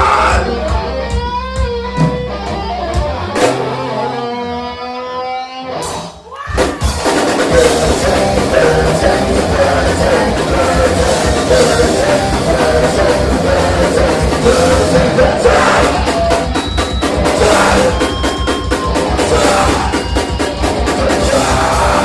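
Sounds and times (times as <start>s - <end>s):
electric guitar line: 0.0s - 22.0s
punk rock band with drums: 0.0s - 22.0s.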